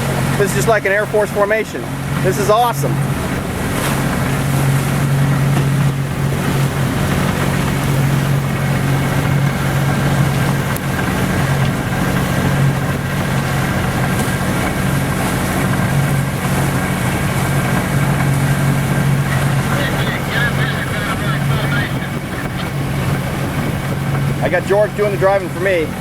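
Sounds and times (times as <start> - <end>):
outboard motor droning: 0.0 - 26.0
wind noise on microphone: 3.0 - 26.0.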